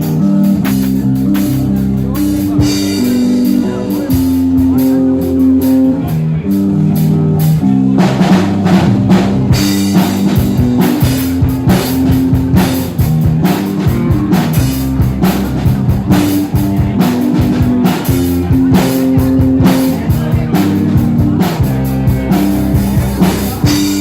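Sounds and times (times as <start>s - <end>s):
drum kit: 0.0s - 24.0s
rock band playing: 0.0s - 24.0s.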